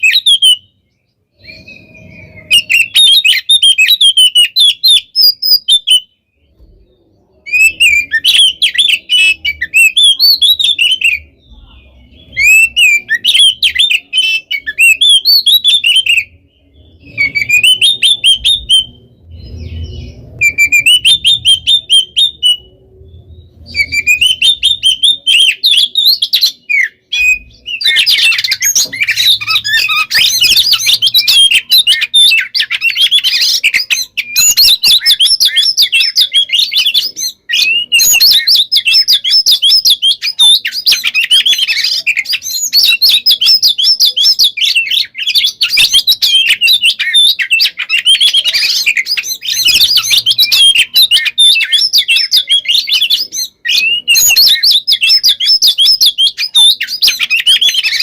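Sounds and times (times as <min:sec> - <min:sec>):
songbird whistling and chattering: 0:00.0 - 0:58.0.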